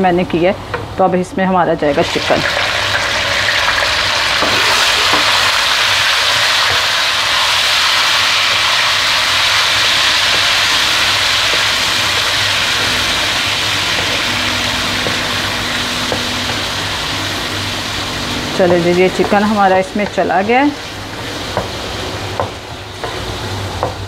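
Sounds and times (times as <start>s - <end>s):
meat sizzling in hot oil: 2.0s - 24.0s.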